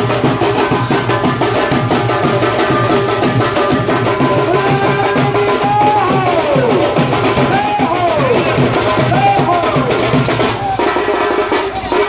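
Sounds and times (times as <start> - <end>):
fast dense drumming: 0.0 - 12.0
held melody line: 0.0 - 12.0.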